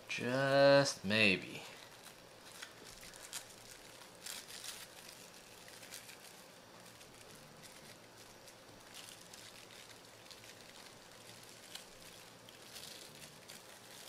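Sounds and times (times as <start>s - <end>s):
plastic cling wrap crinkling: 1.4s - 14.0s.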